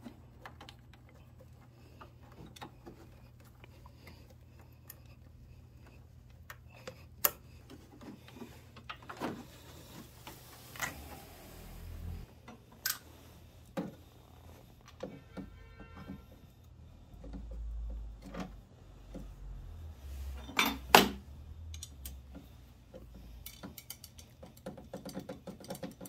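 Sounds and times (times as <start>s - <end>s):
clicks and knocks from handling parts: 0.0s - 11.0s, 12.4s - 19.6s, 20.4s - 26.0s.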